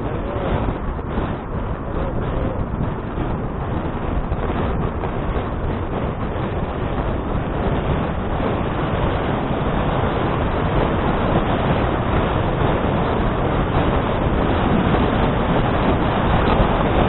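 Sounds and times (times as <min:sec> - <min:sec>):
bicycle road noise: 0:00.0 - 0:17.0
wind rushing: 0:00.0 - 0:17.0.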